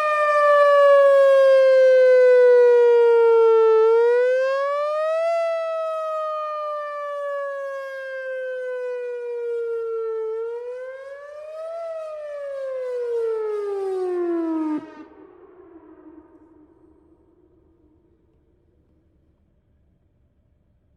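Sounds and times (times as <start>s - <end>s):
warning siren wailing: 0.0s - 18.0s.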